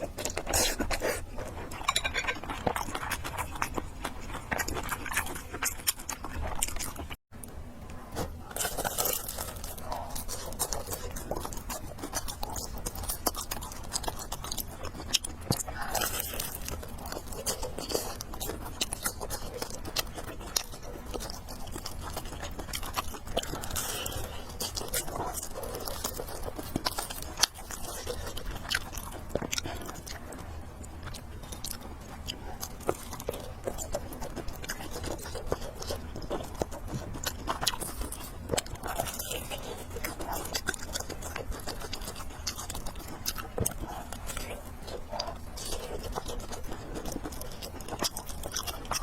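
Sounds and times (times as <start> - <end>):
chewing and crunching food: 0.0 - 49.0.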